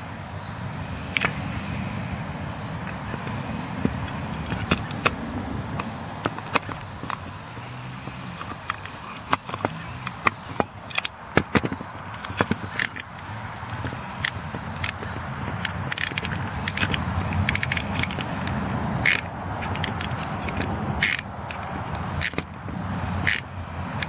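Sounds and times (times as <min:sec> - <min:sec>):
fishing reel metallic clicks: 0:03.1 - 0:22.4, 0:23.2 - 0:23.4.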